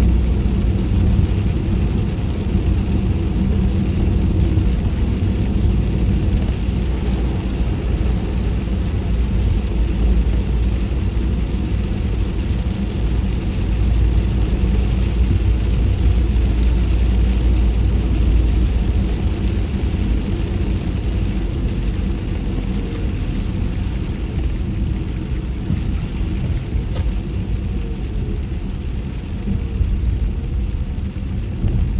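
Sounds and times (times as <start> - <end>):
tyres hissing on wet road: 0.0 - 31.6
engine and tyre rumble: 0.0 - 31.9.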